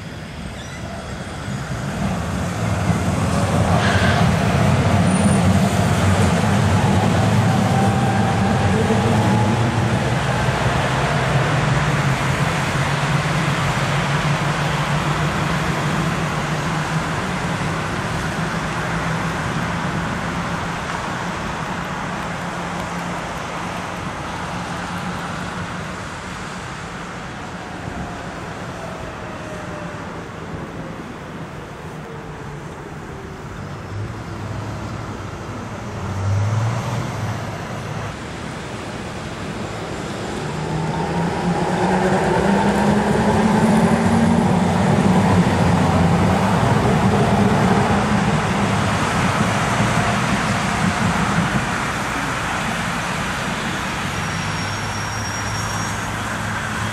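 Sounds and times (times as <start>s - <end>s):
tram motors whining: 0.0s - 23.0s, 27.0s - 56.9s
cars passing on wet road: 0.0s - 56.9s.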